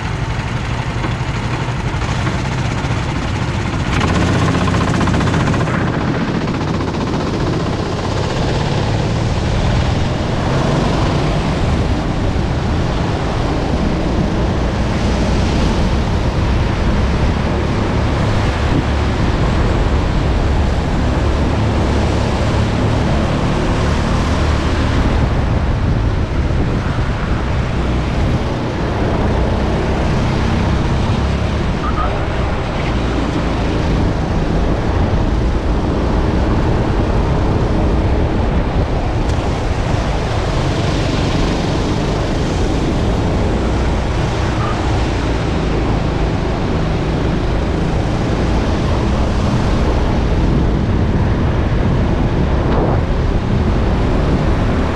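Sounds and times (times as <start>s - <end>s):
go-kart engine droning: 0.0s - 54.9s
wind buffeting microphone: 0.0s - 54.9s.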